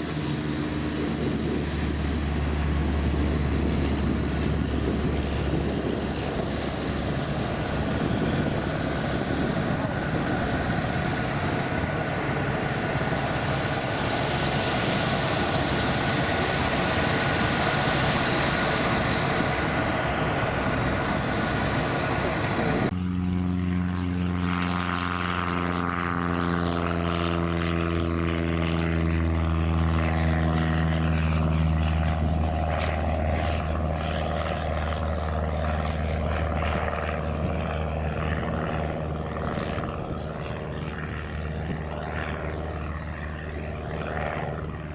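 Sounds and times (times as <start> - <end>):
aircraft engine roar: 0.0 - 44.9
propeller plane droning: 0.0 - 44.9.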